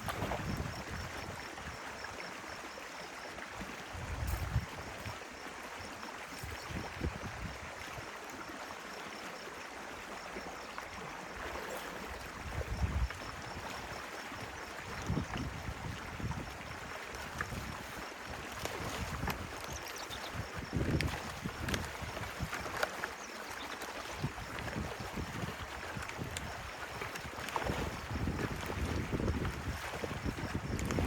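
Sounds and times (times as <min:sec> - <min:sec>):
stream water running: 0:00.0 - 0:31.0.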